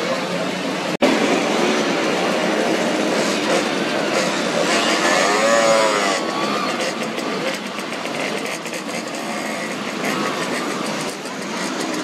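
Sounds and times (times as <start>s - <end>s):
mopeds buzzing past: 1.1s - 12.0s.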